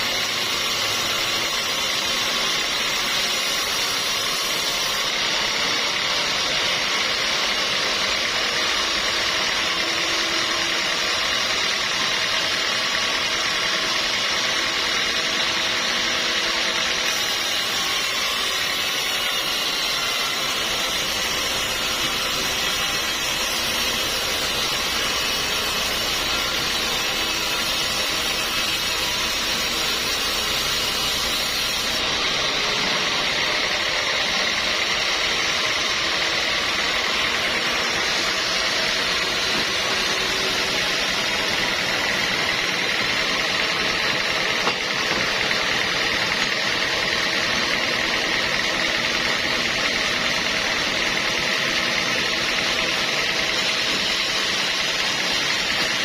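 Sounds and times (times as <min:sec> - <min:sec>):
sawmill saw cutting timber: 0:00.0 - 0:56.0.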